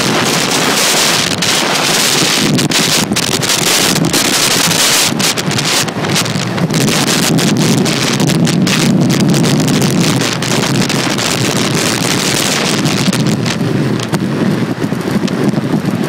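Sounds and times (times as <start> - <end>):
skate wheels rolling on asphalt: 0.0 - 16.0
wind buffeting microphone: 0.0 - 16.0.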